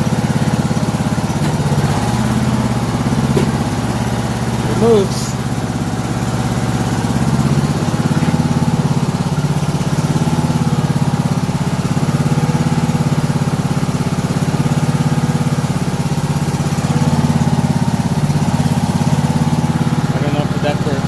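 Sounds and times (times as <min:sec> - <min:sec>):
lawn tractor engine running: 0:00.0 - 0:21.0.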